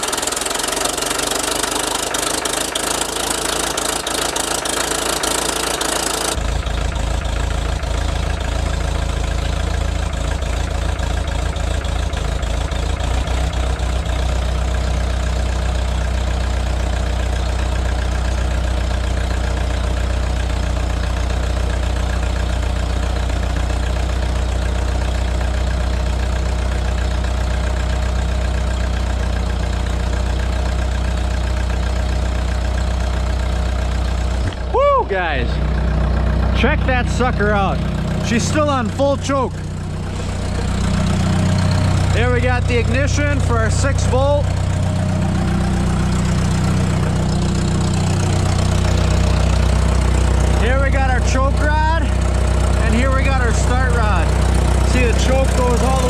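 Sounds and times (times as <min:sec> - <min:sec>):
tractor engine idling unevenly: 0:00.0 - 0:56.0.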